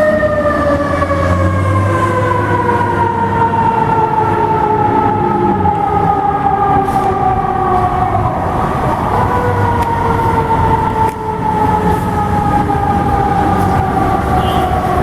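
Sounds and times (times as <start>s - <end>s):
fire truck siren falling in pitch: 0.0s - 15.0s.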